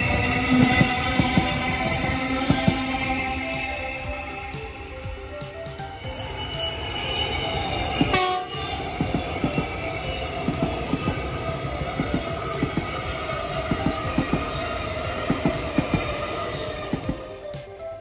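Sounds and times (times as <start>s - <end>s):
train wheels clacking on rail joints: 0.0s - 6.0s, 7.3s - 17.7s
electric train whine: 0.0s - 18.0s.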